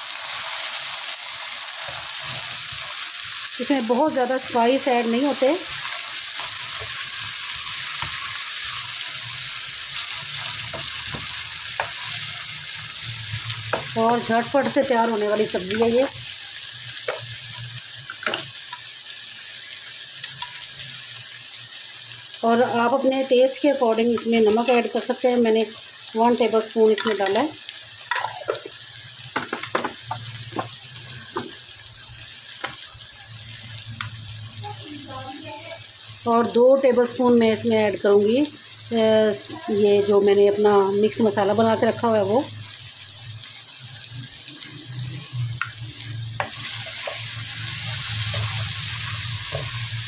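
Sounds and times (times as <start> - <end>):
vegetables sizzling in hot oil: 0.0 - 50.0.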